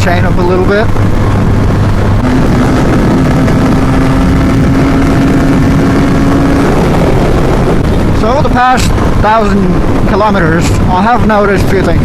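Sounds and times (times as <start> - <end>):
motorcycle engine running: 0.0 - 10.1
wind noise over microphone: 0.0 - 12.0.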